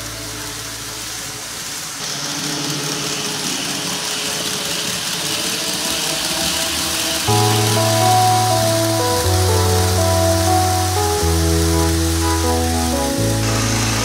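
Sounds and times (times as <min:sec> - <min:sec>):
background music: 0:00.0 - 0:14.0
model trains rolling on track: 0:00.0 - 0:14.0.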